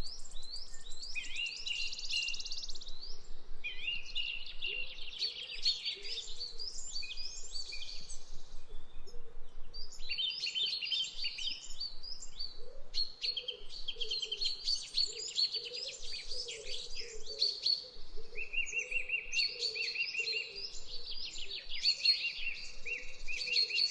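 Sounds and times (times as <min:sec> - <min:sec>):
birds chirping and singing: 0:00.0 - 0:23.9.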